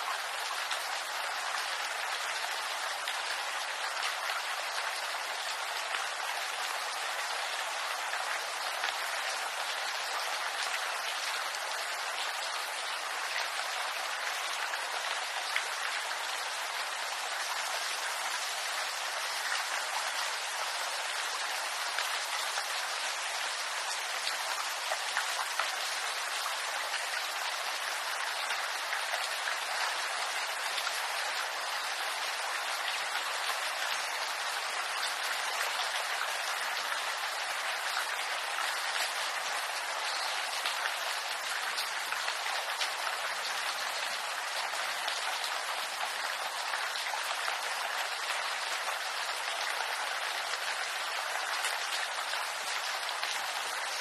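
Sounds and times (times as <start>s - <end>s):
rain on bamboo leaves: 0.0s - 54.0s.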